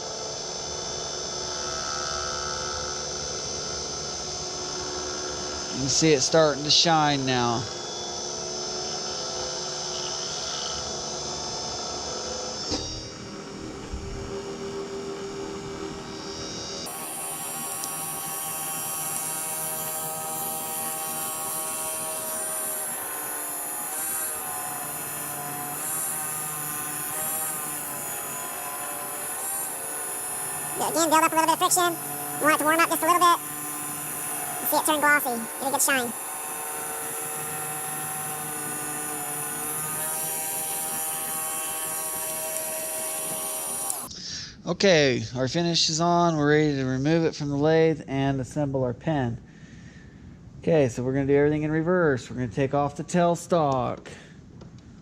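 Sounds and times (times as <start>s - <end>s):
wood lathe motor humming: 0.0s - 44.1s.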